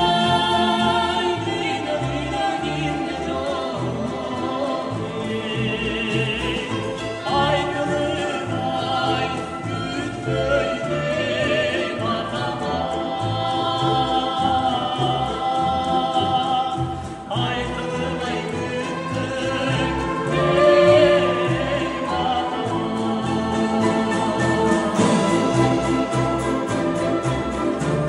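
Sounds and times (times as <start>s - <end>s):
man and woman singing duet: 0.0s - 27.0s
double bass line: 0.0s - 28.0s.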